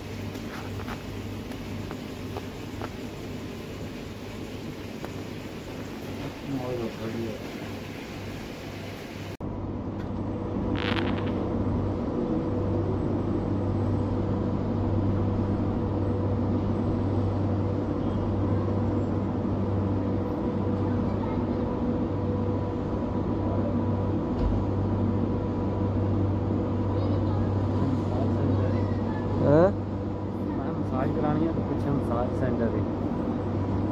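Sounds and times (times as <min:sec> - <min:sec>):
aquarium filter and pump hum: 0:00.0 - 0:33.9.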